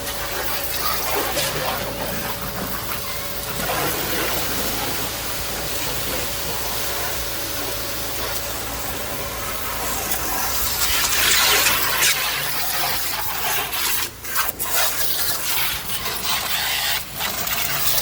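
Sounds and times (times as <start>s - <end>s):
pressure washer water spray hissing: 0.0s - 18.0s.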